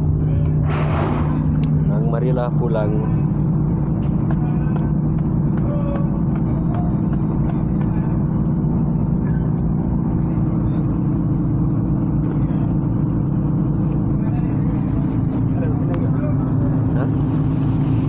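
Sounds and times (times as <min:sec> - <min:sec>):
large engine droning: 0:00.0 - 0:18.0.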